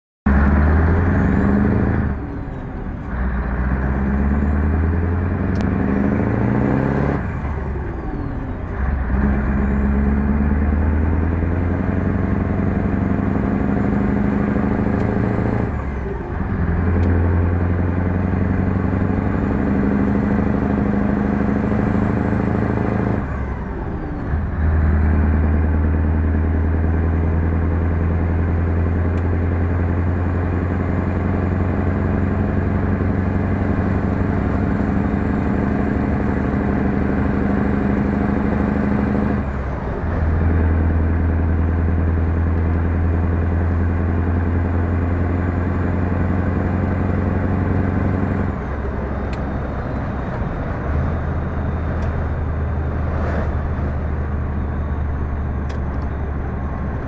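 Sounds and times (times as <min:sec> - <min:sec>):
diesel truck engine under load: 0:00.3 - 0:57.0.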